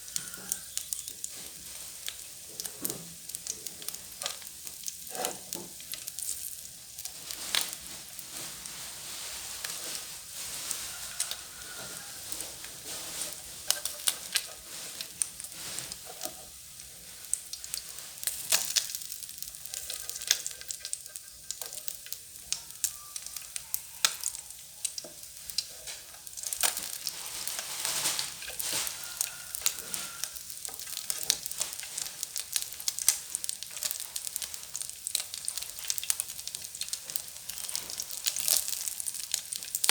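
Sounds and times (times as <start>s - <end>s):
fish frying in hot oil: 0.0s - 39.9s.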